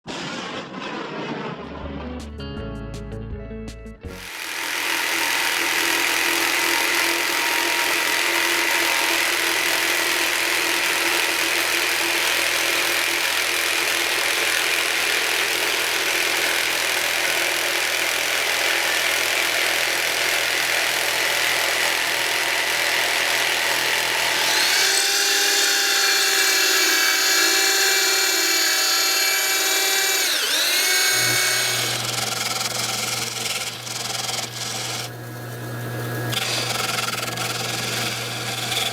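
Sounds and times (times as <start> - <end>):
power tool motor whine: 4.2 - 38.9.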